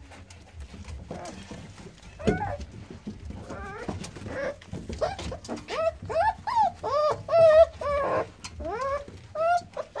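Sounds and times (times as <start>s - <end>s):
puppies whining: 0.4s - 10.0s.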